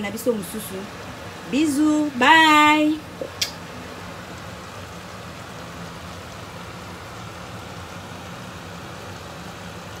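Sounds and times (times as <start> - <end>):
food sizzling in a pot: 0.0 - 10.0
low steady hum: 0.0 - 10.0.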